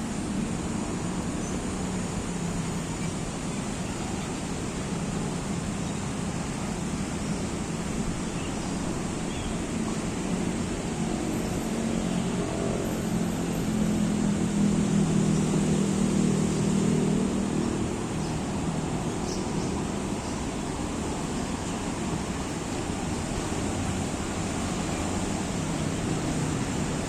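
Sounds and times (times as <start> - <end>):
distant city traffic hum: 0.0 - 27.0
forest ambience: 0.0 - 27.0.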